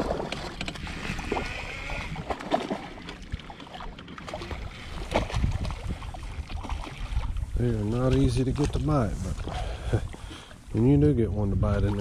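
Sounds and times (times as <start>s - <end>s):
water sloshing against hull: 0.0s - 12.0s.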